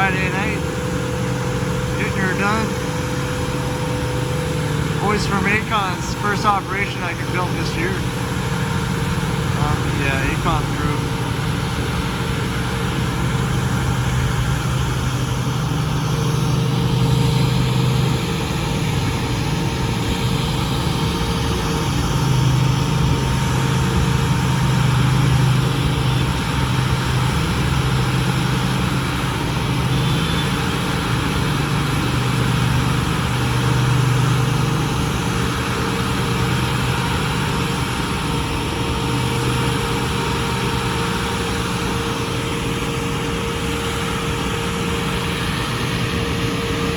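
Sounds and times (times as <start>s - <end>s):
paving machinery engine hum: 0.0s - 46.9s.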